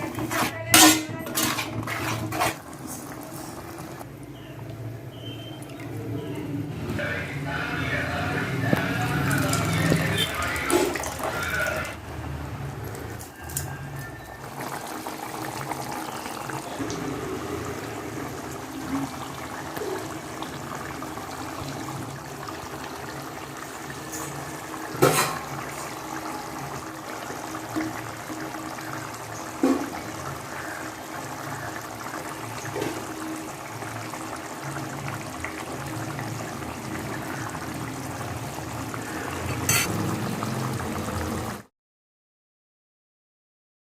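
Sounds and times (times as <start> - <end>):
curry bubbling in a pot: 0.0 - 6.5, 12.8 - 41.7.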